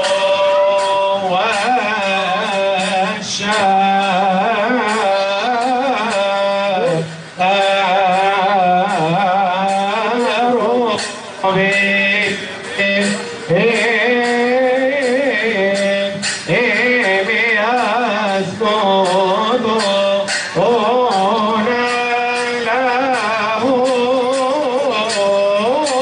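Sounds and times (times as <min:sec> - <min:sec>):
person singing with vibrato: 0:00.0 - 0:26.0
regular drumbeat: 0:00.0 - 0:26.0.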